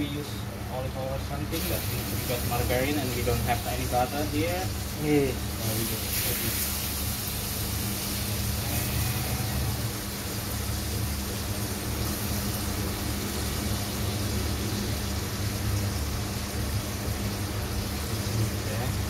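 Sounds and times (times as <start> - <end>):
low rumble and hum: 0.0 - 19.0
steaks sizzling in pan: 1.6 - 19.0.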